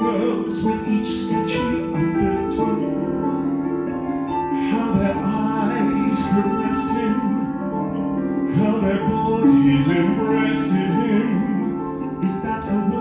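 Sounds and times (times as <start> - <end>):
cello sliding notes: 0.0 - 13.0
keyboard: 0.0 - 13.0
violin: 0.0 - 13.0.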